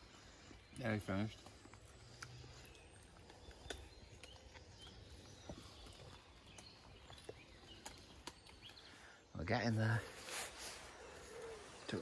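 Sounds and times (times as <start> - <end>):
faint woodland background: 0.0 - 12.0.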